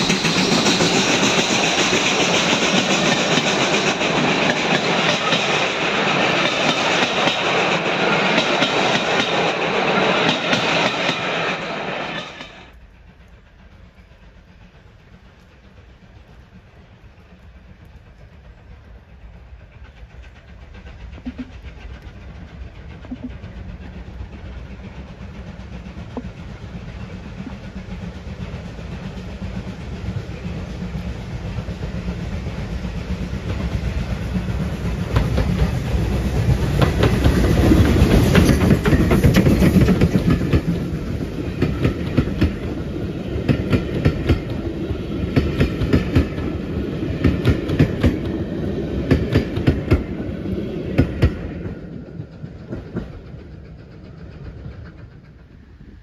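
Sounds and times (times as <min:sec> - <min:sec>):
wheels clicking over rail joints: 0:00.0 - 0:32.1, 0:33.3 - 0:56.0
steam train passing: 0:00.0 - 0:56.0.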